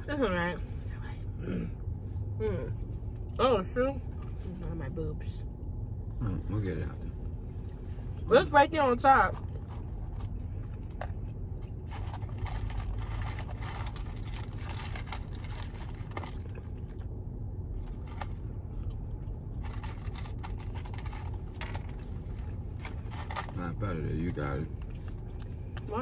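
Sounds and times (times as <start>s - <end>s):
low hum inside car cabin: 0.0s - 26.0s.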